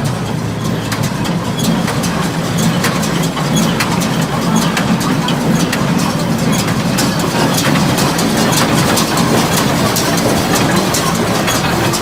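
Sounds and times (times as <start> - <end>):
baler mechanism clicking and knocking: 0.0 - 12.0
tractor engine running: 0.0 - 12.0.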